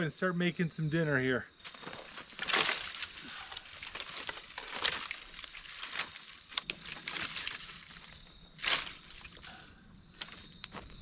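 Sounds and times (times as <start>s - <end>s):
twigs rustling and snapping: 1.6s - 11.0s.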